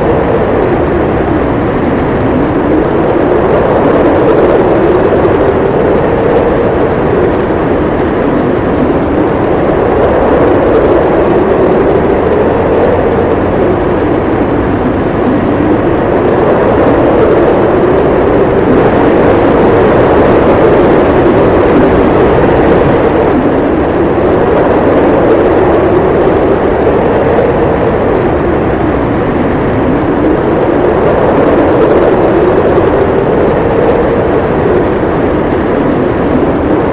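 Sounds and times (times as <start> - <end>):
howling blizzard wind: 0.0 - 36.9.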